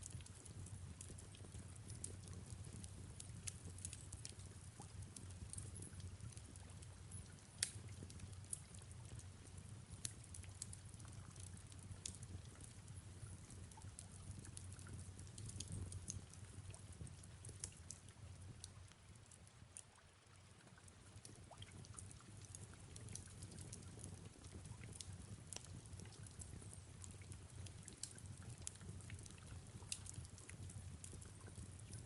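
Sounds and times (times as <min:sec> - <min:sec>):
fireplace crackling and popping: 0:00.0 - 0:32.0
soft hiss of rain: 0:00.0 - 0:32.0.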